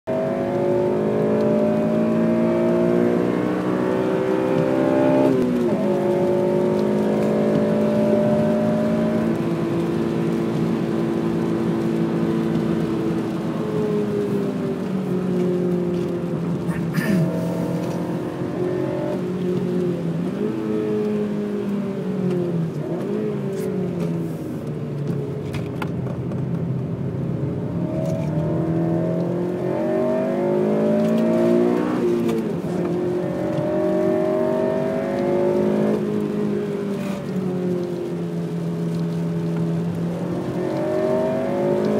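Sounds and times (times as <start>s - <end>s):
car engine accelerating and shifting: 0.0s - 41.9s.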